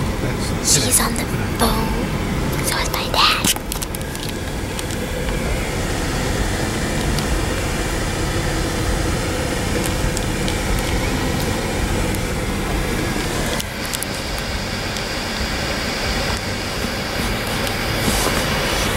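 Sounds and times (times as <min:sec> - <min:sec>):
car cabin noise: 0:00.0 - 0:18.9.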